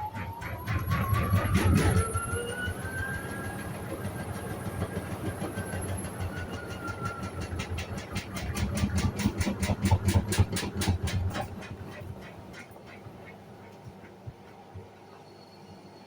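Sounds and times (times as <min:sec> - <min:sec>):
washing machine motor hum: 0:00.0 - 0:15.2.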